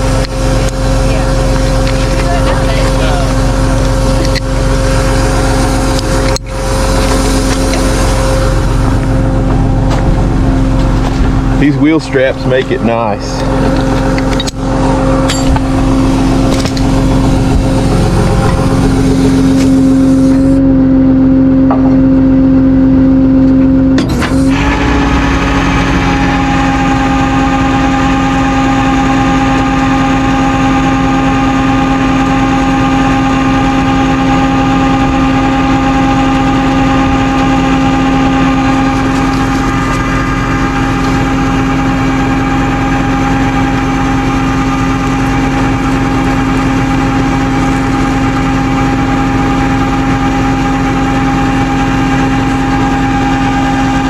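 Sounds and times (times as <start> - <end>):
higher steady tone: 0.0 - 54.0
truck engine humming: 0.0 - 54.0.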